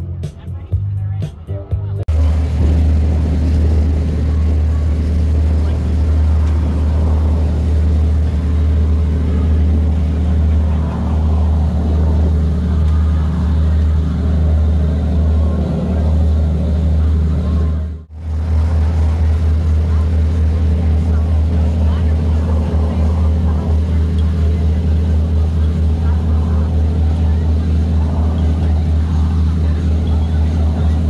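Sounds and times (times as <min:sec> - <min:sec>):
boat engine droning: 0:02.0 - 0:31.0
water rushing past hull: 0:02.1 - 0:31.0.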